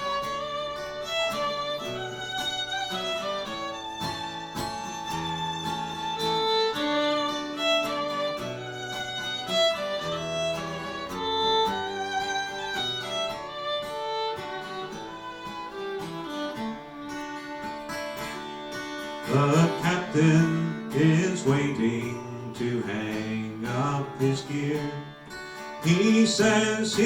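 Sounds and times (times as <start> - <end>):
fiddle playing melody: 0.0 - 27.0
guitar accompaniment: 0.0 - 27.0.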